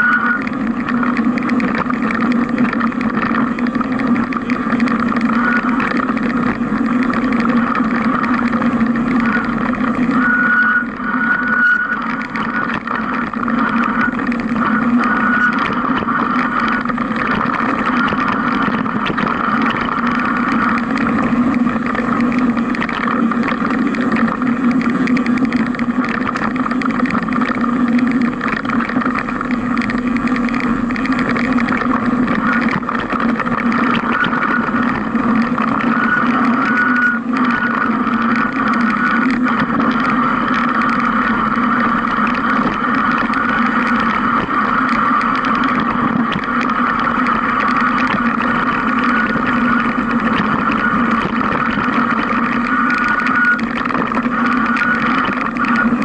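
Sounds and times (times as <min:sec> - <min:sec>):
bike rattle: 0:00.0 - 0:56.0
mountain bike tyre rumble: 0:00.0 - 0:56.0
wind: 0:00.0 - 0:56.0.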